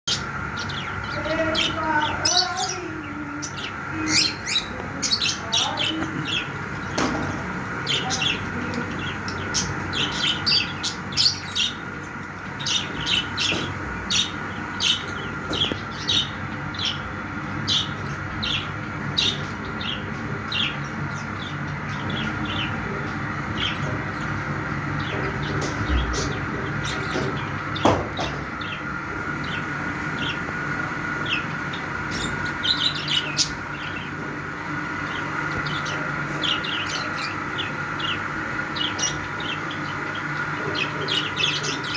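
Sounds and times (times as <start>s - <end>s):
parrots chirping: 0.0s - 41.9s
steady background hum: 0.0s - 41.9s.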